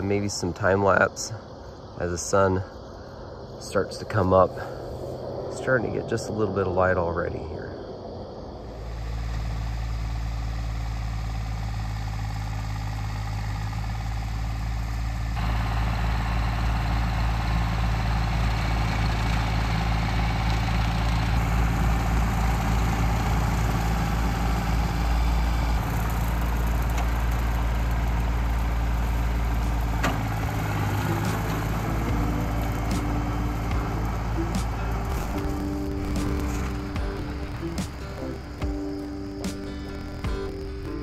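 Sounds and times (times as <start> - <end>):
tractor engine running: 8.0 - 41.0.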